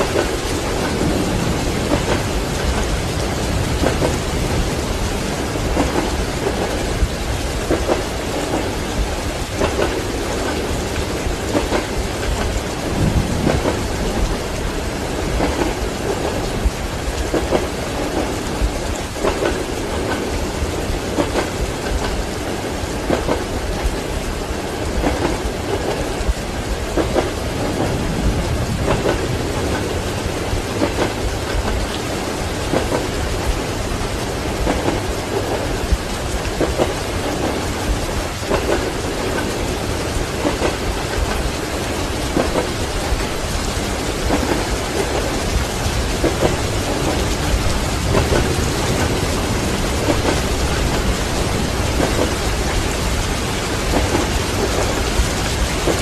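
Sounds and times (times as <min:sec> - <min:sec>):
heavy rain: 0:00.0 - 0:56.0
low thunder rumble: 0:00.0 - 0:56.0
train wheels clacking over rail joints: 0:00.0 - 0:56.0.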